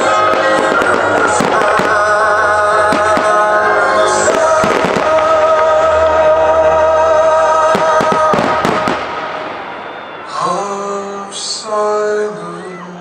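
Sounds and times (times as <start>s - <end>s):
firework bangs and crackles: 0.0s - 11.4s
music with long held notes: 0.0s - 13.0s.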